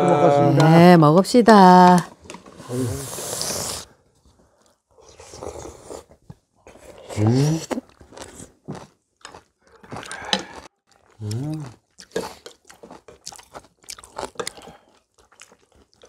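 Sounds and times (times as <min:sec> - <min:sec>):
people chewing: 0:02.5 - 0:16.0.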